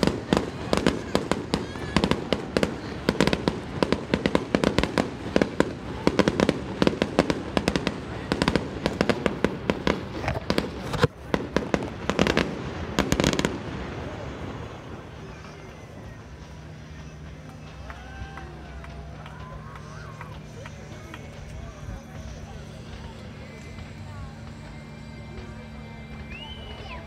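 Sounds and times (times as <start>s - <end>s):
fireworks popping and cracking: 0.0s - 27.0s.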